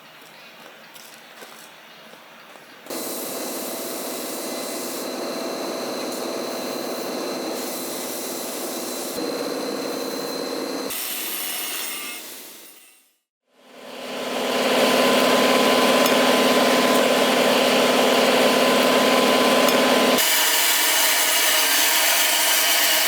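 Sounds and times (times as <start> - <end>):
power tool grinding metal: 2.9 - 13.0, 14.0 - 23.0.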